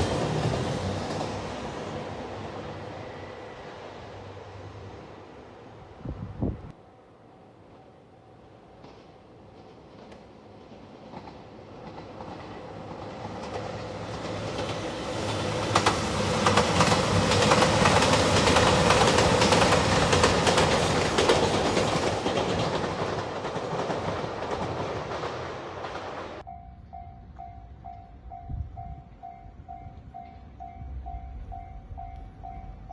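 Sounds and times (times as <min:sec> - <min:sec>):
diesel train passing: 0:00.0 - 0:32.9.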